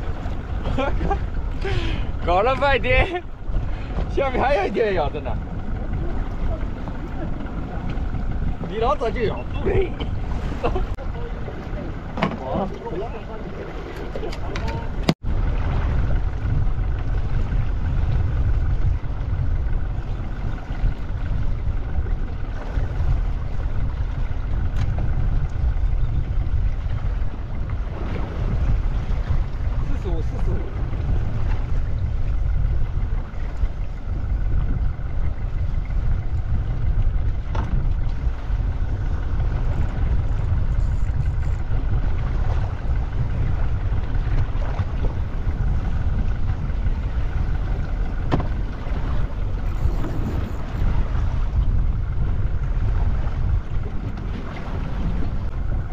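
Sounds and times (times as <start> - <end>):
boat engine rumble: 0.0 - 55.9.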